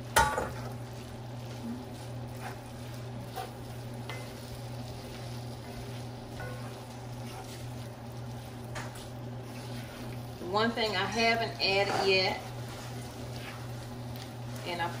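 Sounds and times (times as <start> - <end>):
food sizzling softly: 0.0 - 15.0
wooden spoon stirring and scraping: 0.0 - 15.0.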